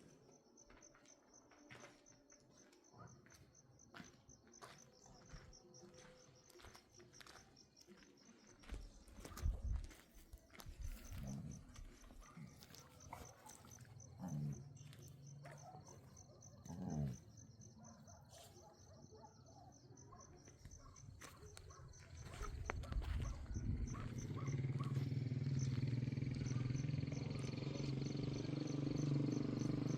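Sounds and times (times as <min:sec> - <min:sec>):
insects chirping: 0:00.0 - 0:29.9.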